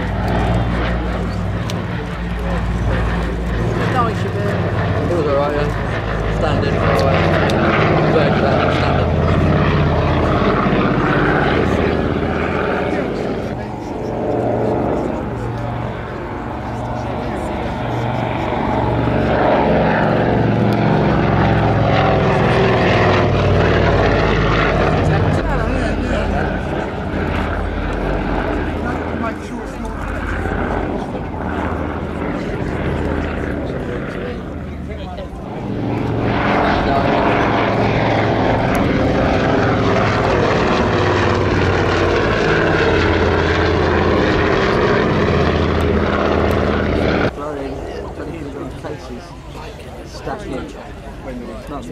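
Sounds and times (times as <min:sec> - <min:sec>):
propeller aircraft engines droning: 0:00.0 - 0:51.9.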